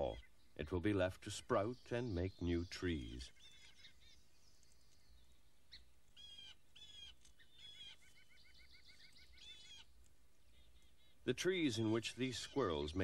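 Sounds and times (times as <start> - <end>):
bird chirping and trilling: 1.4 - 13.0.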